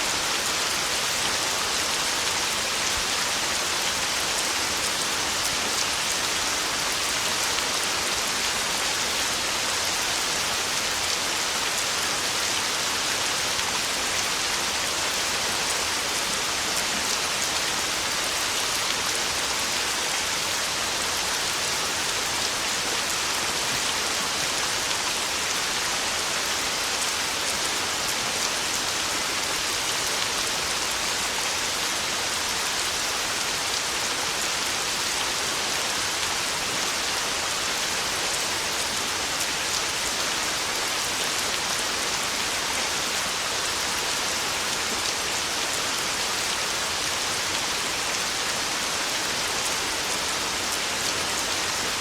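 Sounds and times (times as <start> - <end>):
heavy rain on a tin roof: 0.0 - 52.0.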